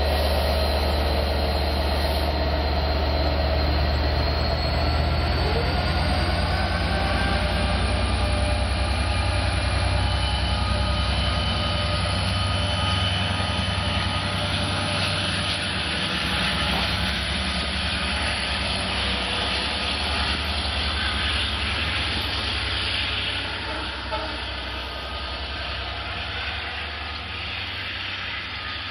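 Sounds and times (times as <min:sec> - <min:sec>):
diesel locomotive rumble: 0:00.0 - 0:28.9
rail noise: 0:00.0 - 0:28.9
thin high whine: 0:00.0 - 0:28.9.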